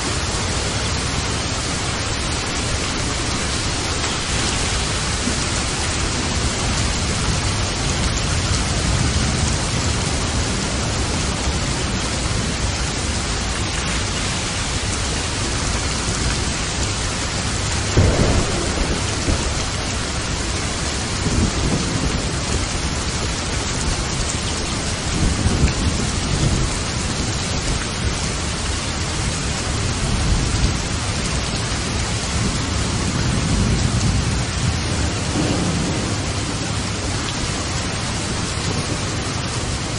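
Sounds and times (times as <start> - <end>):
steady rain: 0.0 - 39.9
thunder rumbling: 0.2 - 39.9.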